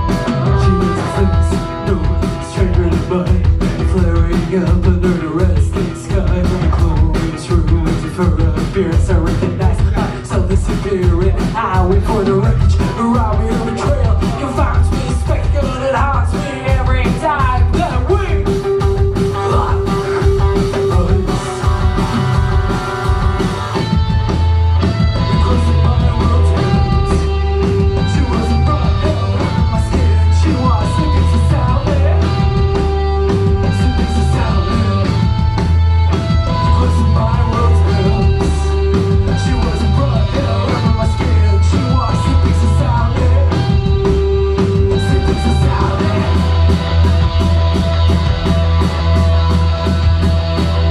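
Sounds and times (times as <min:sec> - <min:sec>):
band playing live: 0:00.0 - 0:50.9
bass guitar: 0:00.0 - 0:50.9
drums: 0:00.0 - 0:50.9
repeating guitar or synth lines: 0:00.0 - 0:50.9.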